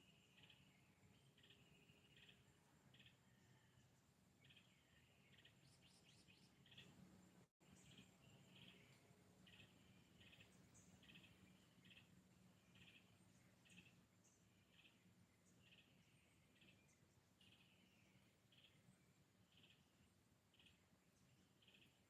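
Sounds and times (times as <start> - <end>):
faint bird chirps: 0.0 - 22.0
low steady hum: 0.0 - 22.0.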